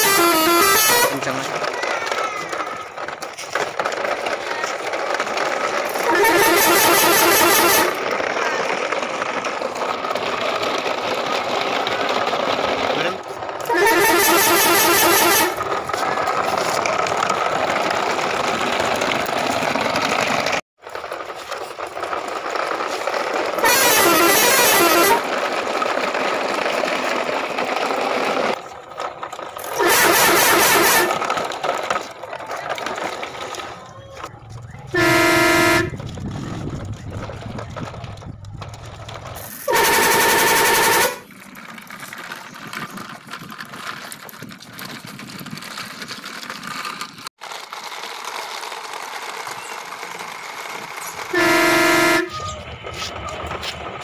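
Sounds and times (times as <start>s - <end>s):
toy trucks scraping on bricks: 0.0s - 54.0s.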